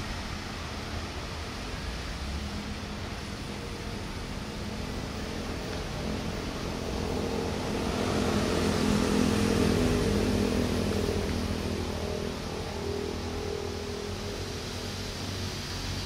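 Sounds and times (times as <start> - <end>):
train rushing noise: 0.0 - 16.0.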